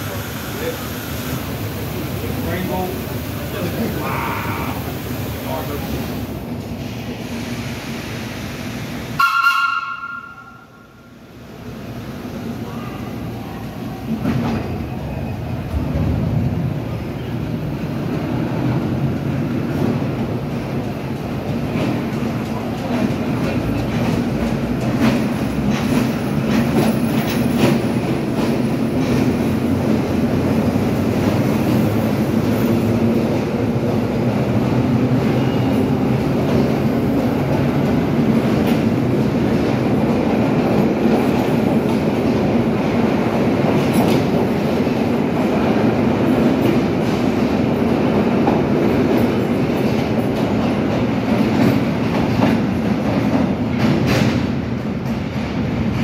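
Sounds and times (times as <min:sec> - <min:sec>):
subway train rumbling past: 0:00.0 - 0:56.0.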